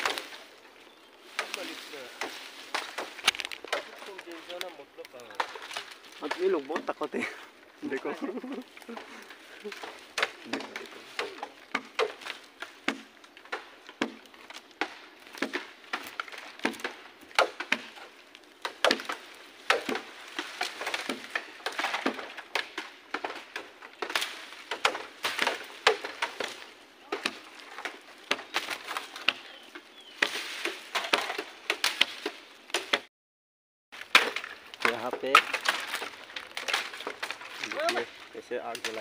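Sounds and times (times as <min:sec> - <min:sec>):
dry bamboo and leaves cracking: 0:00.0 - 0:33.1, 0:33.9 - 0:39.0.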